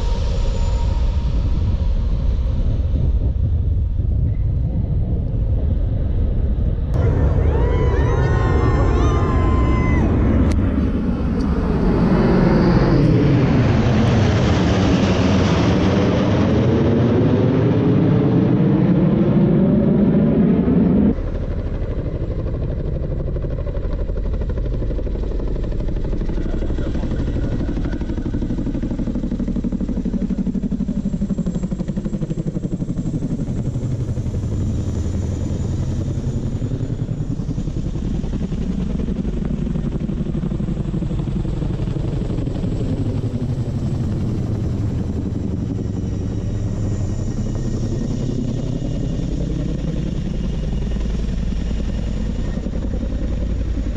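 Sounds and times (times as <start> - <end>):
helicopters flying by: 0.0 - 53.9.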